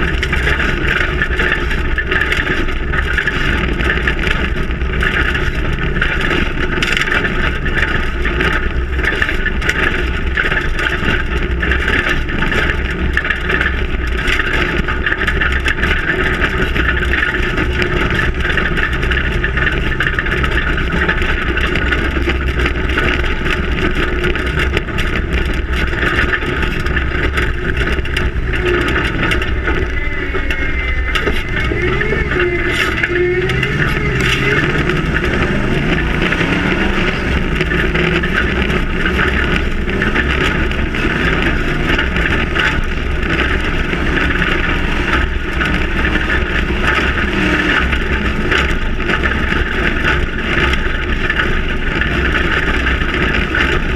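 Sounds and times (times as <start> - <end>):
knocks and rattles: 0.0 - 53.9
truck engine and road noise: 0.0 - 53.9.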